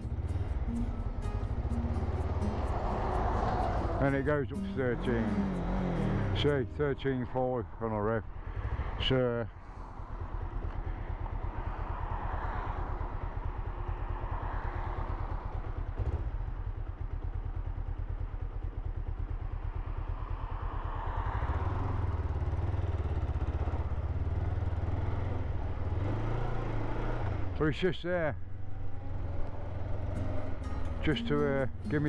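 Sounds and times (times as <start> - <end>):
motorcycle engine running: 0.0 - 6.6, 9.7 - 27.6, 28.4 - 32.0.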